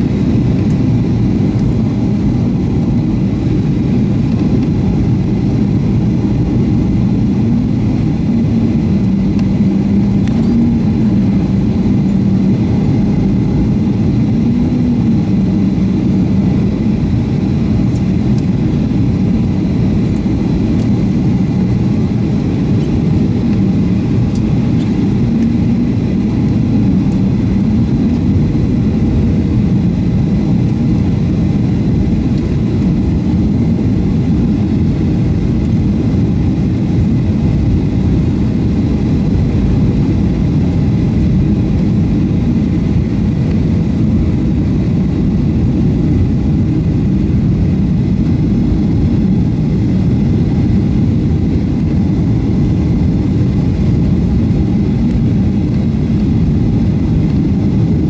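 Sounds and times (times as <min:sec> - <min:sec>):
jet engine hum: 0:00.0 - 0:58.0.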